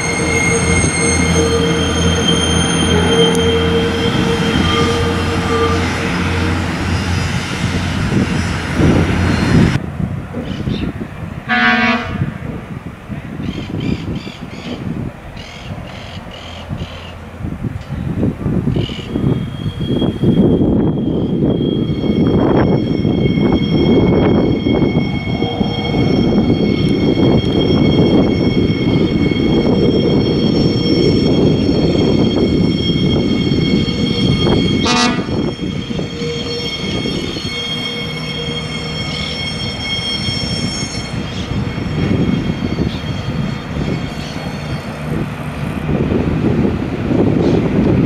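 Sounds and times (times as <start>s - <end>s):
railcar engine and wheels rumbling: 0.0s - 48.0s.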